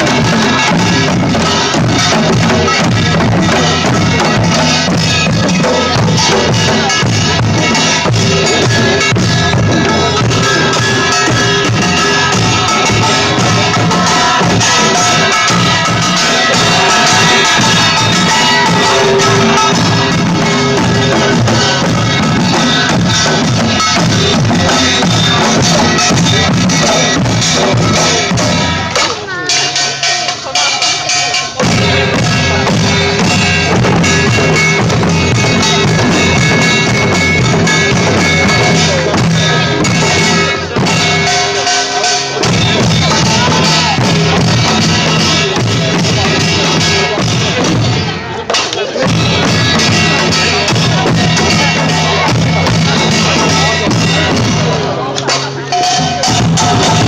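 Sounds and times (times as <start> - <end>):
drum beat: 0.0 - 57.0
loud band music: 0.0 - 57.0.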